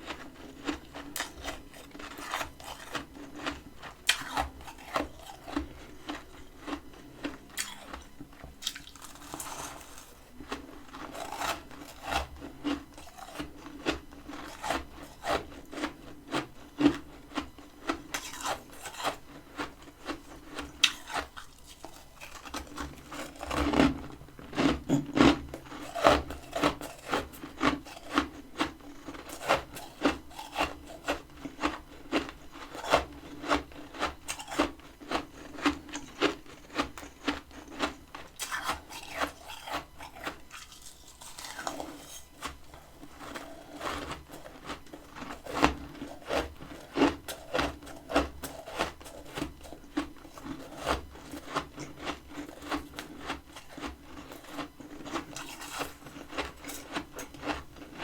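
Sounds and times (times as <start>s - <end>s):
frost being chewed crunching: 0.0s - 58.0s.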